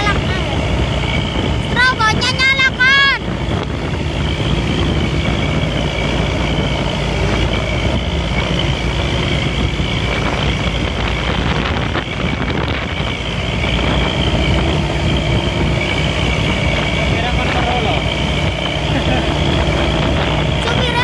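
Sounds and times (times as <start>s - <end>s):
bus engine drone: 0.0s - 21.0s
road and wind noise: 0.0s - 21.0s.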